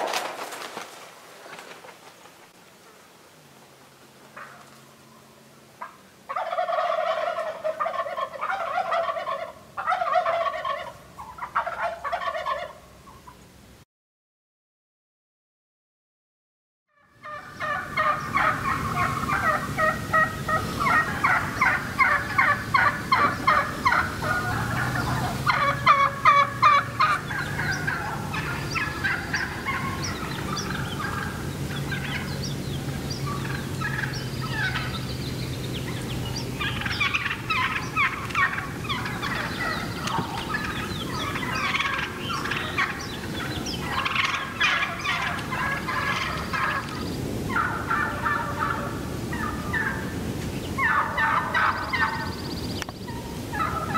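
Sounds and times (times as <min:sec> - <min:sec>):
turkeys gobbling: 0:04.3 - 0:05.2, 0:05.8 - 0:13.4, 0:17.0 - 0:53.9.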